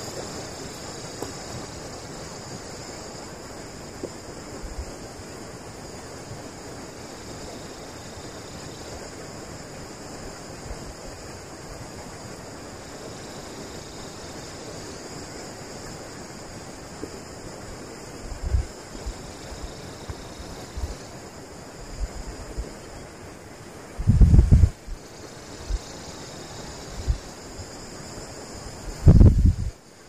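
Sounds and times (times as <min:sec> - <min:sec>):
steady wind rushing: 0:00.0 - 0:29.8.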